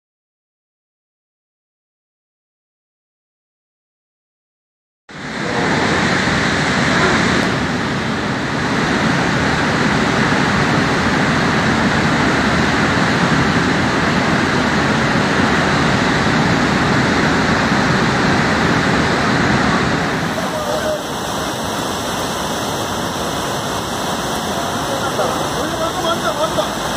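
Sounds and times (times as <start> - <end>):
river rushing over rocks: 5.1 - 26.9.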